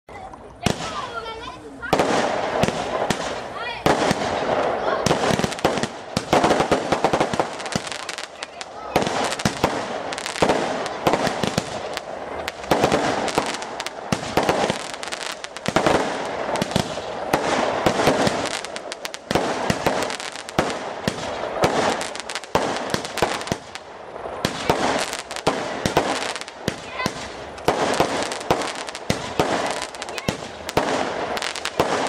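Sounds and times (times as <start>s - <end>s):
fireworks crackling: 0.1s - 32.0s
fireworks bangs: 0.6s - 32.0s.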